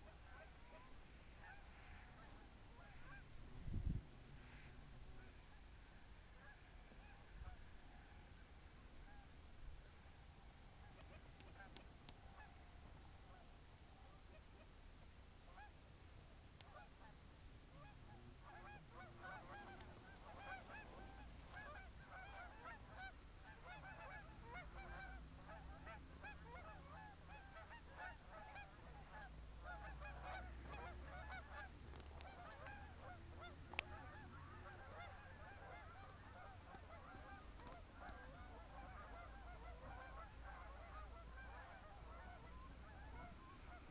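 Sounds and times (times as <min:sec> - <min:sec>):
geese calling in flight: 0:00.0 - 0:03.3, 0:04.3 - 0:09.3, 0:10.7 - 0:14.7, 0:15.5 - 0:15.8, 0:16.6 - 0:43.9.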